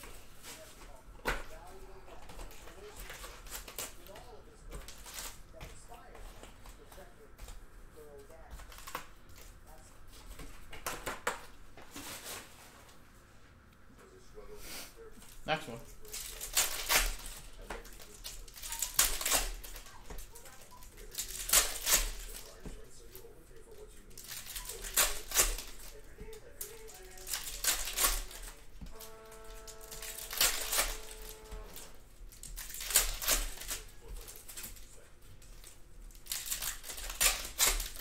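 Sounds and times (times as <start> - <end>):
foil wrappers crinkling and tearing: 0.0 - 7.2, 8.1 - 12.7, 15.2 - 38.0.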